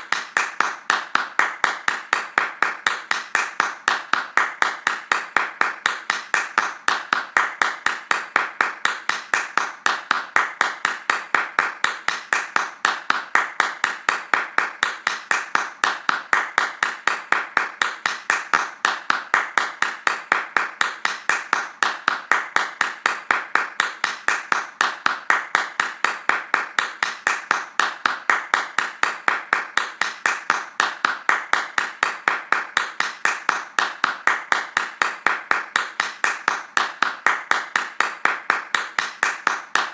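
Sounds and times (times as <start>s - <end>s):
hands clapping fast: 0.0s - 39.9s.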